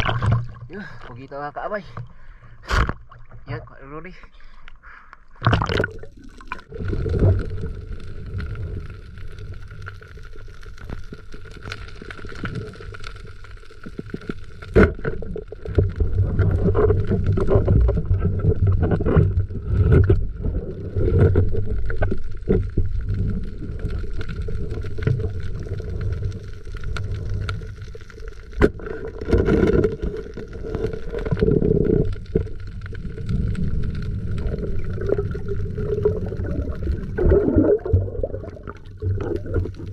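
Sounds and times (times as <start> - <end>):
underwater water sloshing: 0.0 - 10.2, 12.3 - 39.9.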